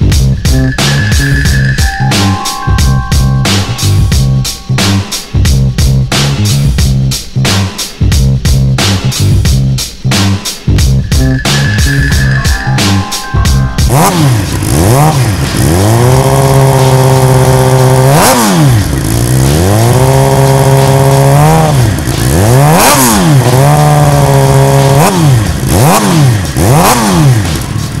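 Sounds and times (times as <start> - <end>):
motorcycle engine revving: 3.6 - 12.4, 13.8 - 28.0.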